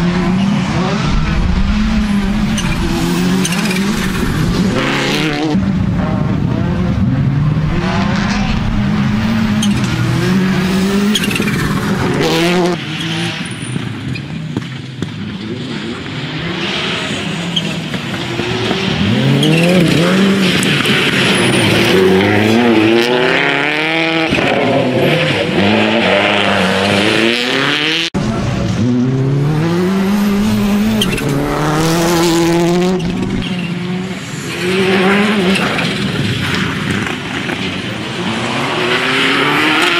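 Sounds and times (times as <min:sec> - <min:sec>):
rally car engine revving hard: 0:00.0 - 0:13.5, 0:15.5 - 0:37.1, 0:38.0 - 0:39.9.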